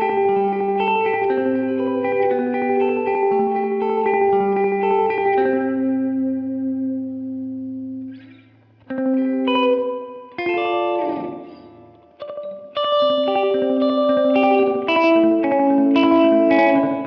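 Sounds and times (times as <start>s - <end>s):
clean electric guitar with delay: 0.0s - 17.0s.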